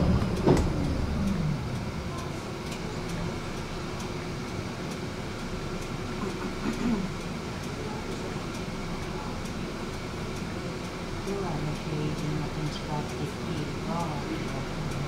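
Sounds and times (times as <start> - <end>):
tram rolling on track: 0.0 - 15.0.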